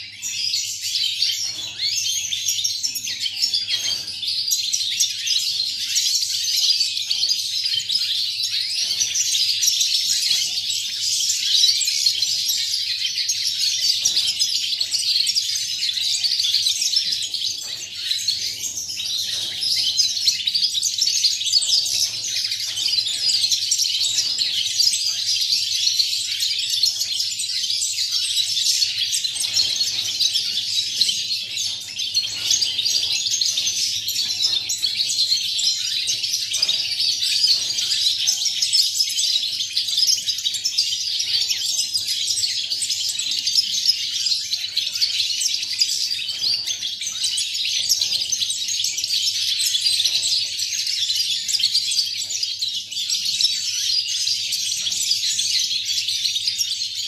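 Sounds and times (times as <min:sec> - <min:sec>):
finches singing: 0:00.0 - 0:57.0.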